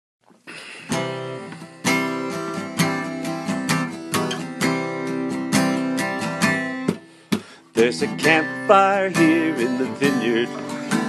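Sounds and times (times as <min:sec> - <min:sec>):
acoustic guitar strumming chords: 0:00.8 - 0:11.0.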